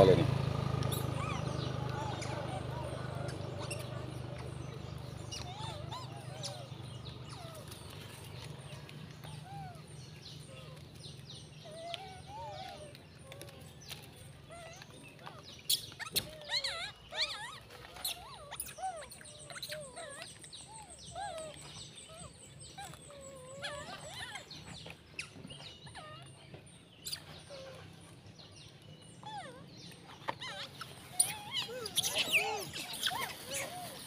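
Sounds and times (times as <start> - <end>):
monkeys cooing and chirping: 0.0 - 34.0.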